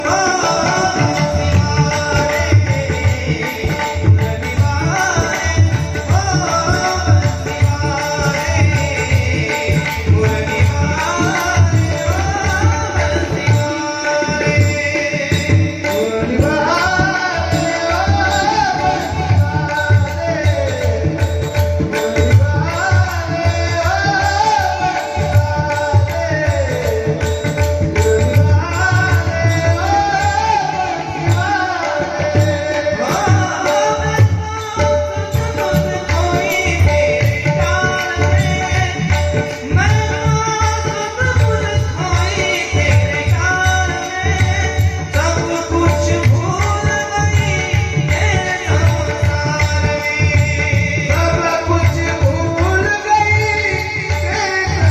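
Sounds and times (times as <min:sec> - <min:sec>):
hand drums playing rhythm: 0:00.0 - 0:54.9
man singing ornamented melody: 0:00.0 - 0:54.9.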